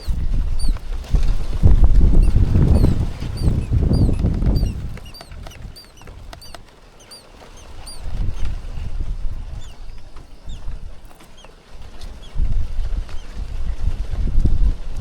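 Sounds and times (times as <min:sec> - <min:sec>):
small bird chirping: 0:00.0 - 0:13.4.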